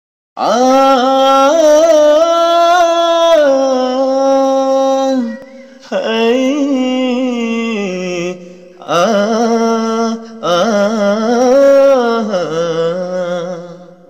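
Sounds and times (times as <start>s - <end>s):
man singing unaccompanied: 0.4s - 14.0s.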